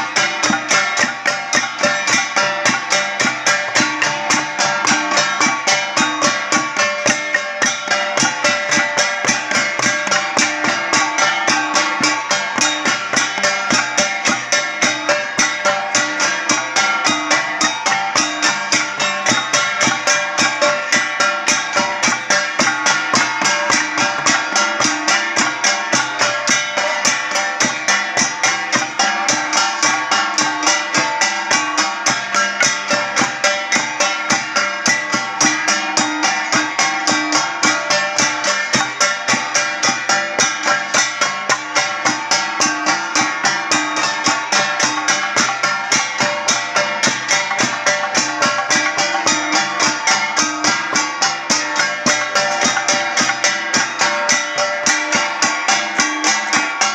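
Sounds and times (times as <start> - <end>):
bronze gong ensemble: 0.0 - 56.9.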